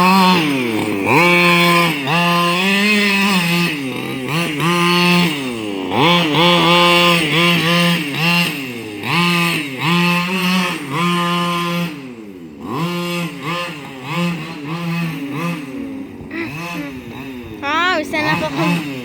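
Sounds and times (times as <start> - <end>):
small two-stroke engine revving: 0.0 - 19.0.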